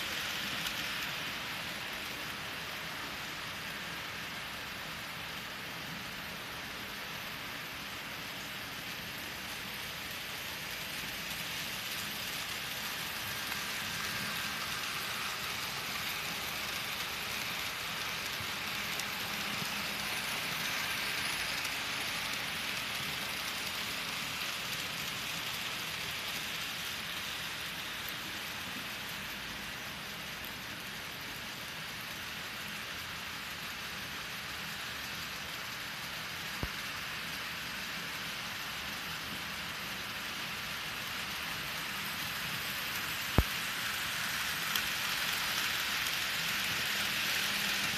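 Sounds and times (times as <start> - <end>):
model trains running on track: 0.0 - 47.9.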